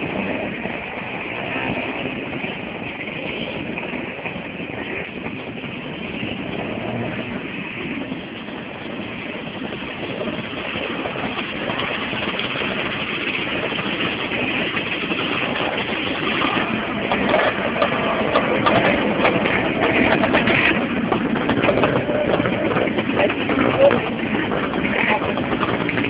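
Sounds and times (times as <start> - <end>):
scooter engines running: 0.0 - 26.0.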